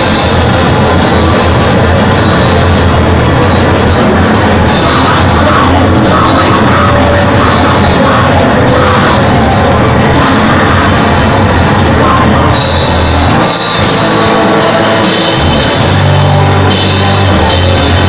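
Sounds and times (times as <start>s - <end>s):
distorted rock music: 0.0s - 18.0s
drum beat: 0.0s - 18.0s
heavy bass: 0.0s - 18.0s.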